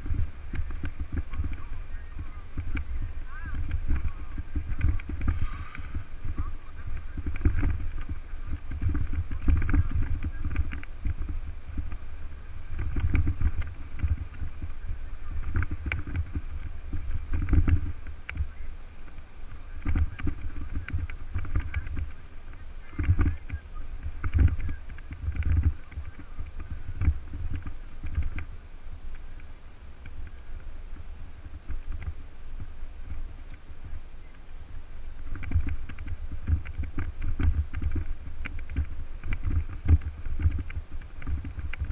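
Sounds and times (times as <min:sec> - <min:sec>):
bicycle knocks and rattles: 0:00.0 - 0:29.4, 0:30.0 - 0:41.9
wind buffeting microphone: 0:00.0 - 0:41.9.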